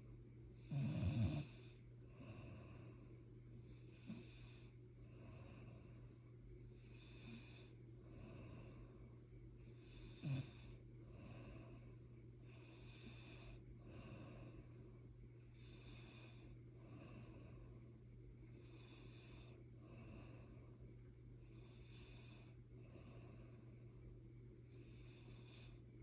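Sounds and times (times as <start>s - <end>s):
steady low hum: 0.0s - 26.0s
soft snoring: 0.6s - 14.8s, 15.5s - 17.8s, 18.5s - 20.8s, 21.4s - 24.0s, 24.6s - 25.9s.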